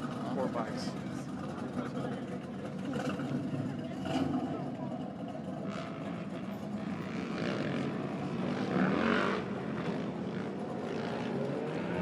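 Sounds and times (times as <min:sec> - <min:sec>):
motorcycle engines passing: 0:00.0 - 0:12.0.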